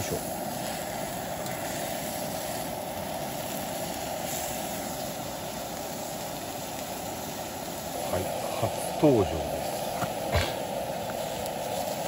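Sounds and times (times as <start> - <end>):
gas burner roaring: 0.0 - 12.0
onions sizzling on hot plate: 0.0 - 12.0.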